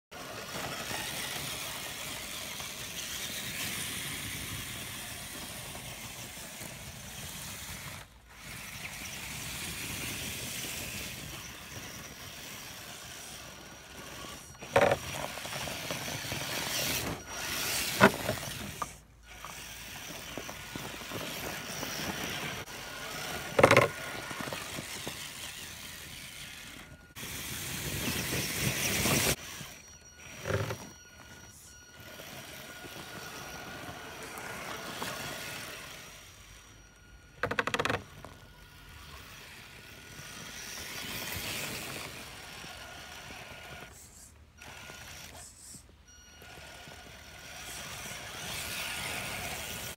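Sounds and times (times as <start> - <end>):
toy truck electric motor whirring: 0.2 - 49.9.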